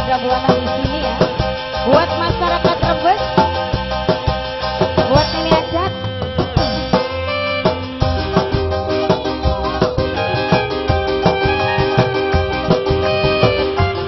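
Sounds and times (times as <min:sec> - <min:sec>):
drums beating quickly: 0:00.0 - 0:14.0
melody instruments with sliding notes: 0:00.0 - 0:14.0.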